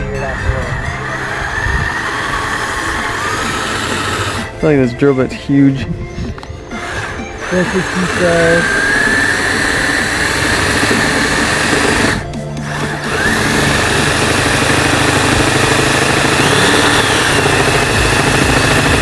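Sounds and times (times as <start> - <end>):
electric drill whining: 0.0 - 5.0, 6.0 - 19.0.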